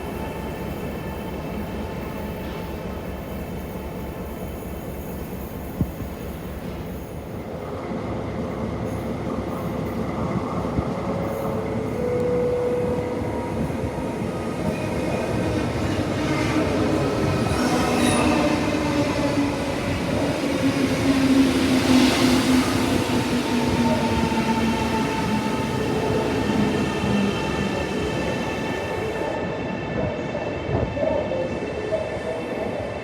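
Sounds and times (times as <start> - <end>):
train running on rails: 0.0 - 33.0.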